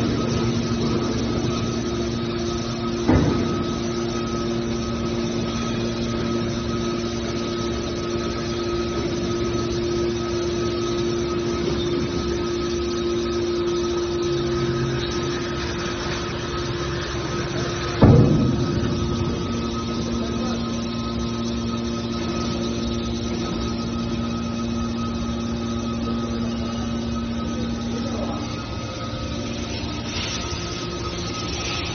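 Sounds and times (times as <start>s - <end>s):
hydraulic power unit humming: 0.0s - 31.9s.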